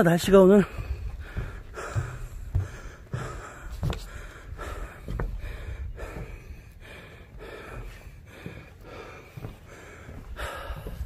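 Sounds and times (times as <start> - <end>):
low microphone rumble: 0.6 - 11.0
person breathing close to microphone: 0.6 - 11.0.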